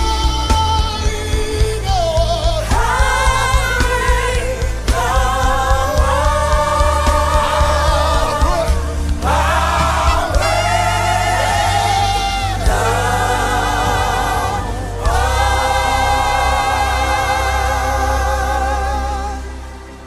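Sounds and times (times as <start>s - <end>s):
band with deep bass: 0.0s - 20.0s
voices singing gospel: 0.0s - 20.0s.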